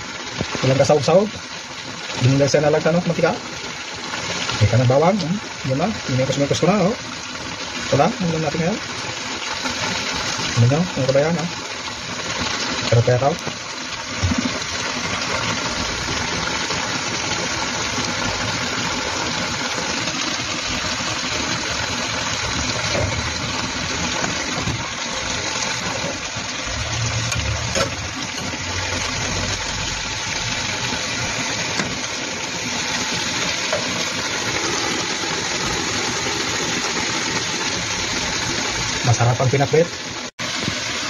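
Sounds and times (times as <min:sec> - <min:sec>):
vegetables sizzling in a frying pan: 0:00.0 - 0:41.0.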